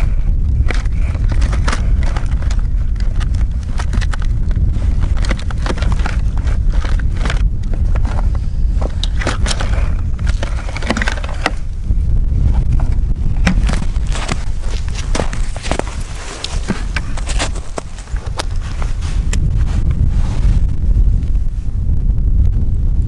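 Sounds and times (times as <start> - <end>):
low microphone rumble: 0.0 - 23.0
clothing and gear rustling: 0.6 - 11.8, 12.4 - 21.6.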